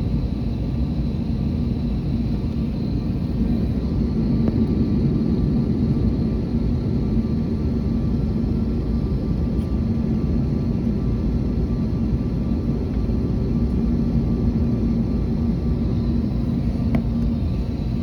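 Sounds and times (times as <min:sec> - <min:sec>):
jet engines droning: 0:00.0 - 0:18.0.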